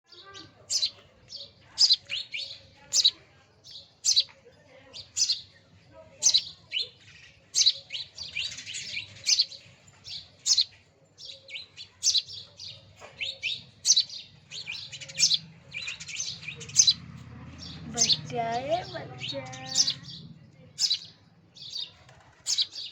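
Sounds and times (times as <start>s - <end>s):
small bird chirping: 0.1s - 4.3s, 4.9s - 22.9s.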